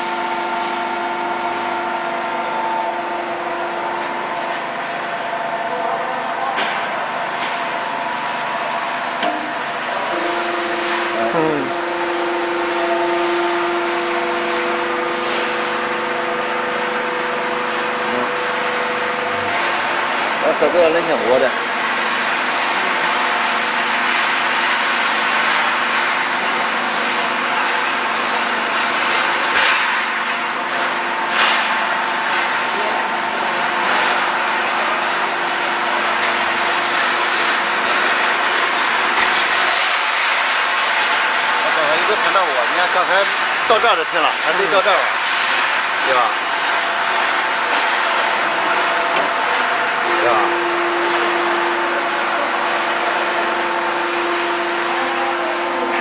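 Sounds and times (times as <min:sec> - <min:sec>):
hydraulic press pump humming: 0:00.0 - 0:56.0.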